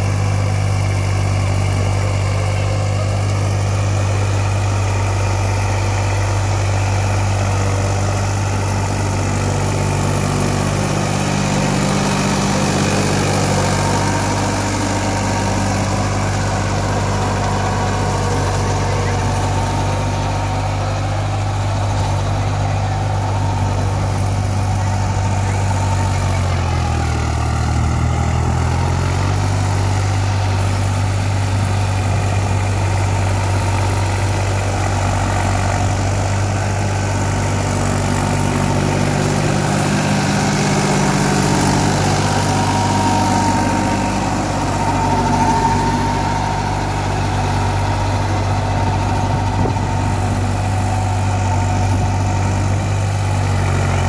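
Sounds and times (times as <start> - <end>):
rotary tiller working soil: 0.0 - 54.0
tractor diesel engine running: 0.0 - 54.0.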